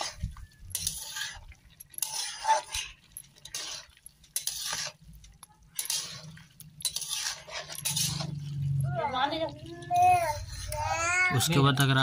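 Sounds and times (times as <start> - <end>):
spatula scraping a pan: 0.0 - 11.6.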